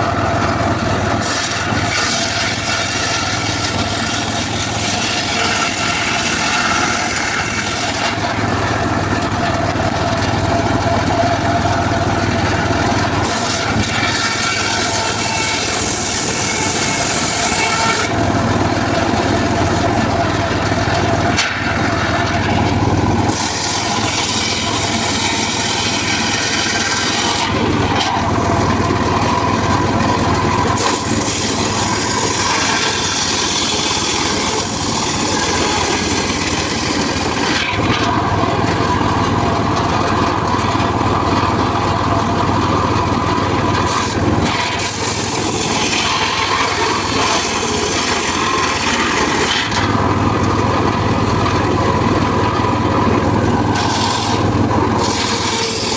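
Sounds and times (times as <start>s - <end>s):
circular saw cutting wood: 0.0s - 55.9s.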